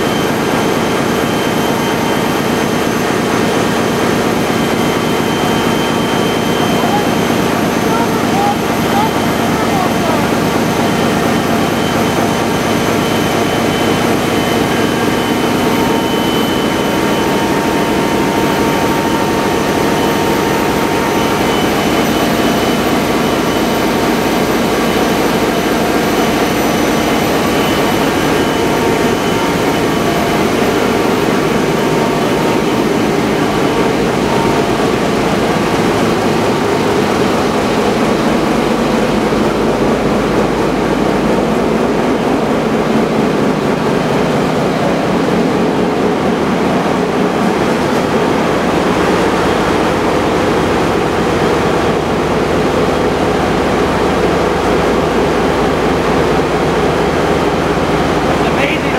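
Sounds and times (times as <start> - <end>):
ship diesel engine running: 0.0 - 58.9
thin steady machinery whines: 0.0 - 58.9.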